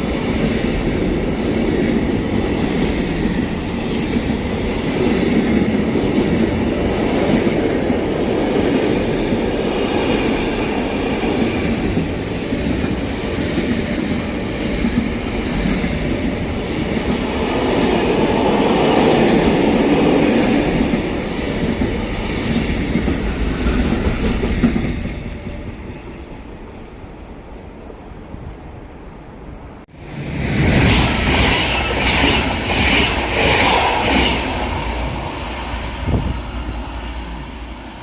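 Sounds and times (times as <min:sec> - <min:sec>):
train passing: 0:00.0 - 0:38.0.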